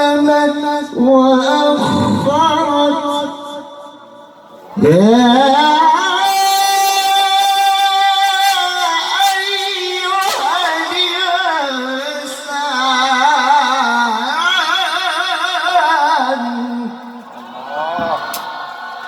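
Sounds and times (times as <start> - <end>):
man reciting melodically: 0.0 - 4.2, 4.8 - 17.2.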